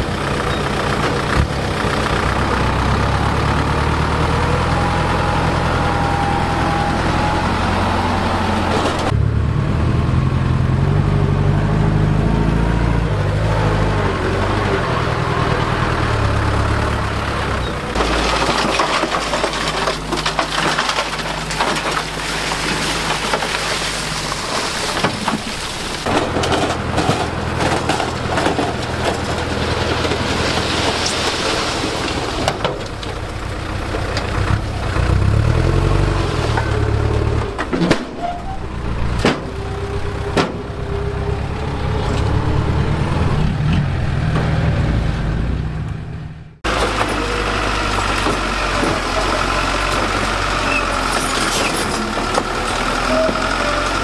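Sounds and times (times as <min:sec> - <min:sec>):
soil and stones crunching: 0:00.0 - 0:09.2, 0:12.5 - 0:46.0, 0:46.6 - 0:54.0
bulldozer diesel engine: 0:00.0 - 0:54.0.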